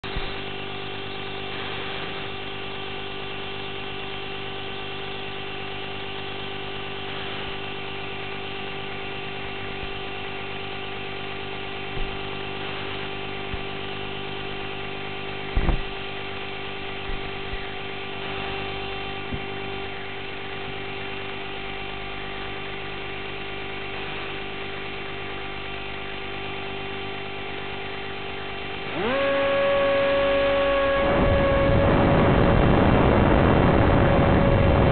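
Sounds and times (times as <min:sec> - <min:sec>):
electric motor whine: 0:00.0 - 0:34.9
electrical hum with fixed tones: 0:00.0 - 0:34.9.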